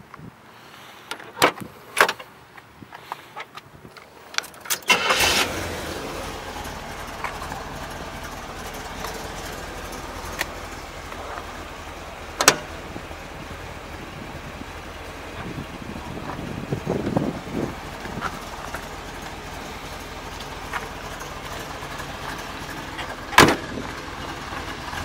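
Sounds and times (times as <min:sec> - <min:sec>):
car engine starting and idling: 0:03.9 - 0:25.0.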